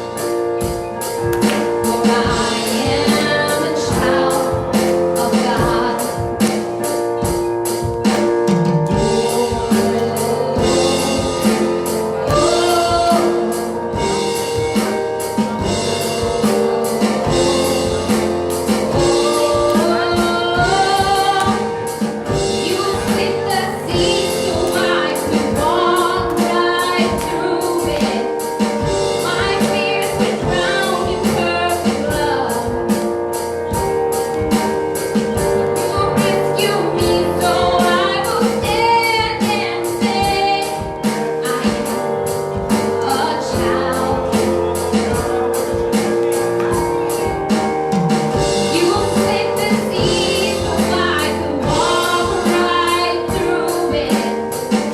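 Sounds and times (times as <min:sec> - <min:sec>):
drum kit beat: 0:00.0 - 0:54.9
gospel singers with a band: 0:00.0 - 0:54.9.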